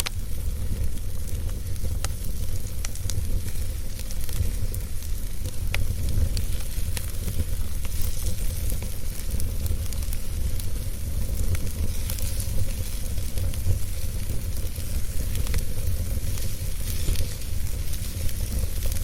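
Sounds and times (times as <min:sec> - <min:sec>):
fire crackling and popping: 0:00.0 - 0:19.0
fire rumbling and hissing: 0:00.0 - 0:19.0.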